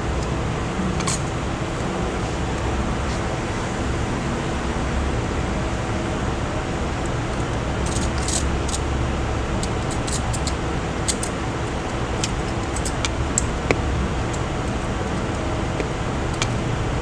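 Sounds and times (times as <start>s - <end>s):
machine fan hum: 0.0s - 17.0s.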